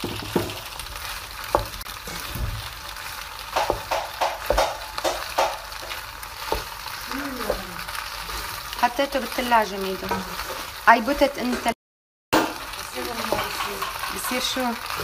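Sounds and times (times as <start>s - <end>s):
wooden spoon scraping a pot: 0.0s - 11.7s, 12.9s - 15.0s
pasta sizzling in a pot: 0.0s - 11.8s, 12.4s - 15.0s.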